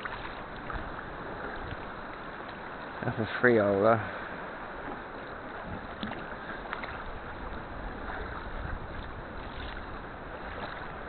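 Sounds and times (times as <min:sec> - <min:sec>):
paddle splashing water: 0:00.0 - 0:11.0.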